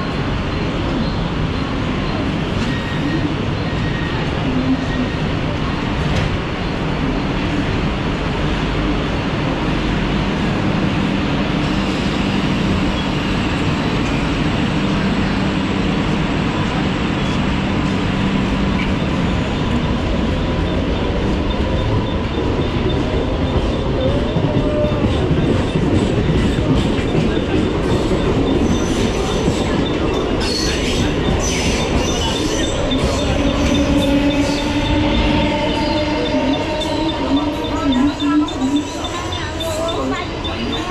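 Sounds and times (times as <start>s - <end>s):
electric train passing: 5.2s - 40.9s.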